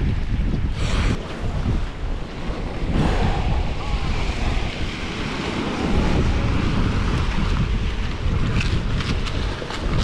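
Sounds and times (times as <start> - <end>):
sea waves washing: 0.0 - 10.0
wind buffeting microphone: 0.0 - 10.0.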